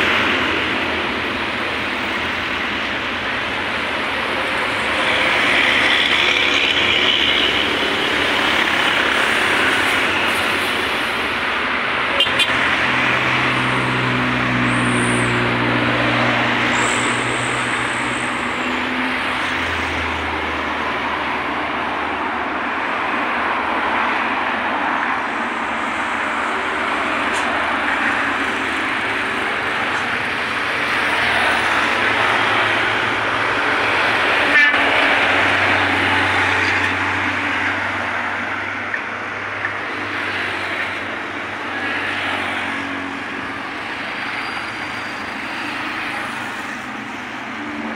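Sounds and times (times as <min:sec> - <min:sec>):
heavy vehicle engine drone: 0:00.0 - 0:47.9
highway traffic passing: 0:00.0 - 0:47.9.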